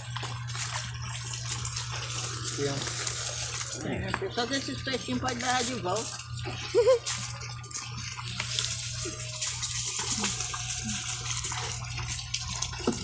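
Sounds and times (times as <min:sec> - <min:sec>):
water pouring from a hose: 0:00.0 - 0:13.0.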